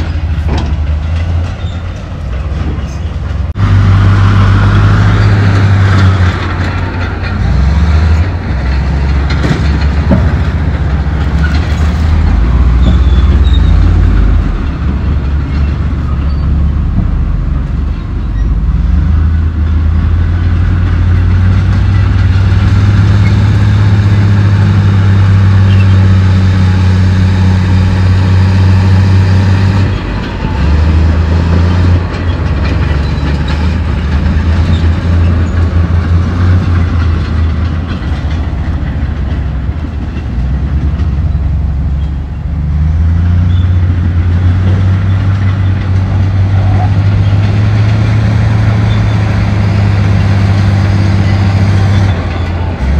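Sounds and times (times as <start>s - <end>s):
bulldozer diesel engine under load: 0.0s - 52.9s
steel crawler tracks clanking: 0.0s - 52.9s.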